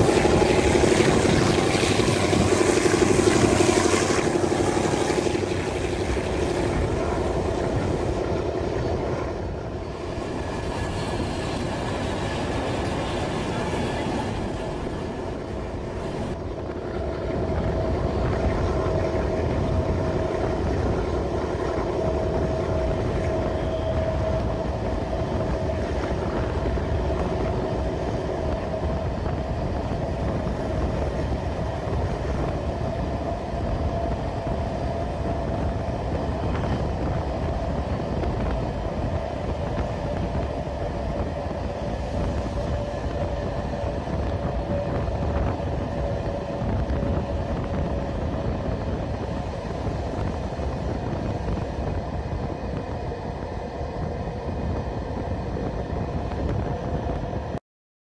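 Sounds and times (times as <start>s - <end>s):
diesel locomotive whine: 0.0s - 57.6s
train wheels rumbling on rails: 0.0s - 57.6s.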